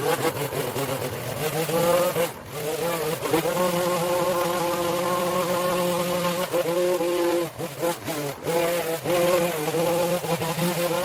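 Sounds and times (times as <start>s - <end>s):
small petrol engine buzzing: 0.0s - 11.0s.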